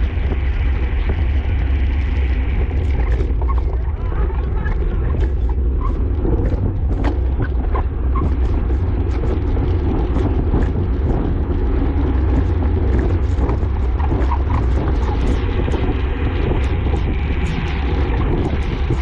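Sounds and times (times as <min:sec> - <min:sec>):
heavy wind rumble on microphone: 0:00.0 - 0:19.0.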